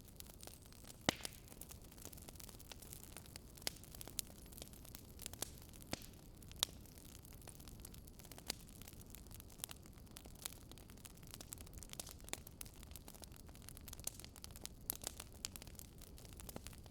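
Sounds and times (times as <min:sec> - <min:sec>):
low steady hiss: 0:00.0 - 0:16.9
wood fire crackling: 0:00.0 - 0:16.9.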